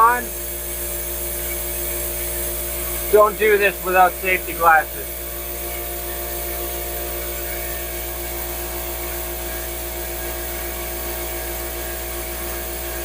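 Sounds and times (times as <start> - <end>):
air compressor running: 0.0 - 13.0
shop vac running: 0.0 - 13.0.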